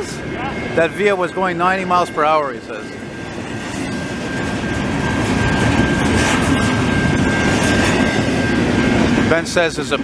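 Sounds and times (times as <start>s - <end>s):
high whine: 0.0s - 10.0s
steel wheels rushing on rail: 0.0s - 10.0s.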